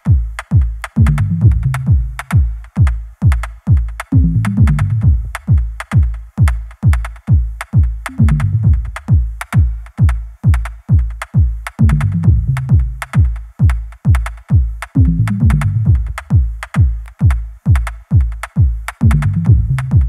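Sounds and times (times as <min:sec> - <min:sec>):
electronic music with kick drum: 0:00.0 - 0:20.0.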